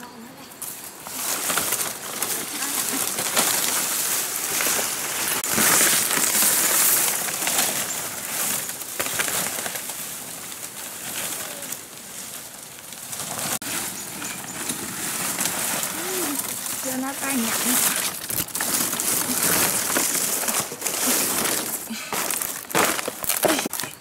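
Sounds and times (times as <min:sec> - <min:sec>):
palm fronds dragged through leaves: 0:00.6 - 0:23.9
footsteps crunching on leaves: 0:00.6 - 0:24.0.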